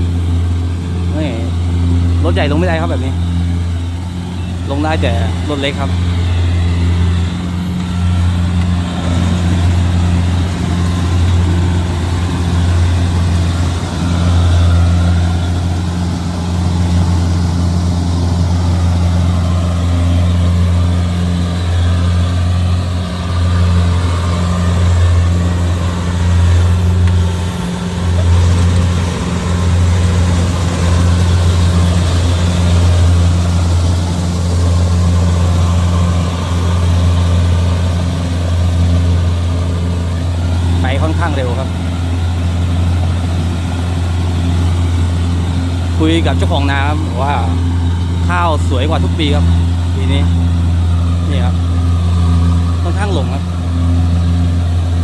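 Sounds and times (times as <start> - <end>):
combine harvester engine humming: 0.0 - 55.0.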